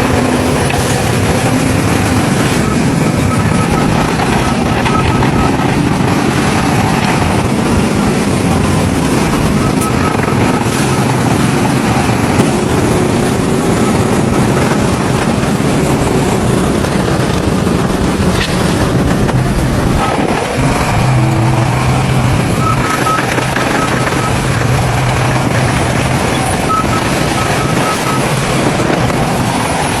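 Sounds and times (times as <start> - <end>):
bulldozer diesel engines running: 0.0 - 30.0
reversing alarm beeping: 0.5 - 16.6, 20.6 - 29.9.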